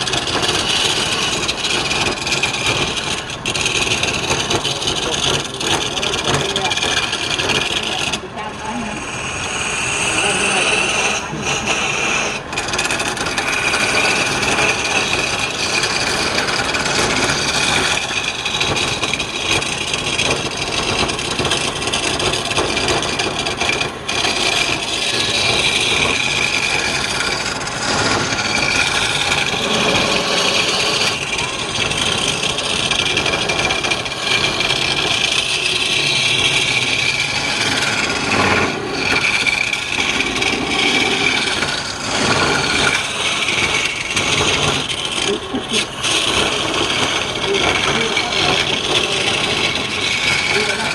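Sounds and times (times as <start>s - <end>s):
lathe whine: 0.0s - 50.9s
tool scraping wood on lathe: 0.0s - 50.9s.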